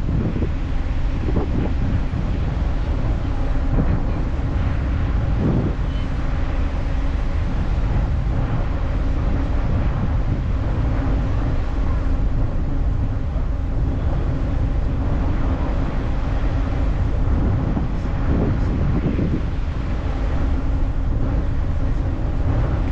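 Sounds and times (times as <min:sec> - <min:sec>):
ferry engine rumble: 0:00.0 - 0:22.9
wind buffeting microphone: 0:00.0 - 0:22.9.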